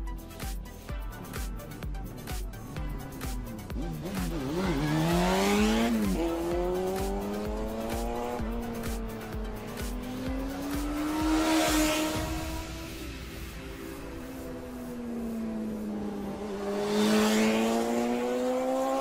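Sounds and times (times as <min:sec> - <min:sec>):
background music with beat: 0:00.0 - 0:19.0
race car engine revving: 0:03.1 - 0:19.0.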